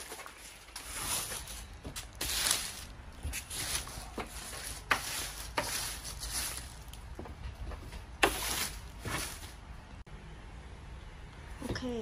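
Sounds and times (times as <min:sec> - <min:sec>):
plastic wrap rustling and crinkling: 0:00.0 - 0:09.8.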